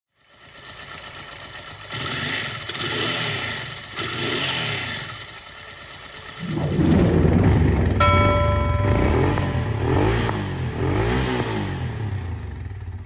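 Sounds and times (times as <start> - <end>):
motorcycle engine idling and revving: 0.2 - 6.4, 8.1 - 13.0.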